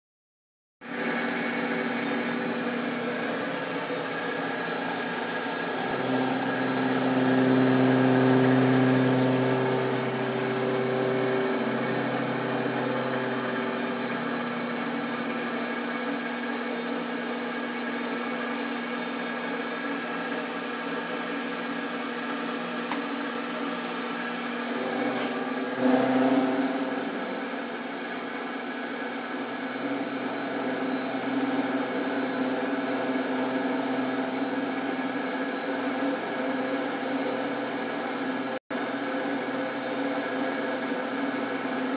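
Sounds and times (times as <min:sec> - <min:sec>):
milling machine cutting steel: 0:00.9 - 0:41.9.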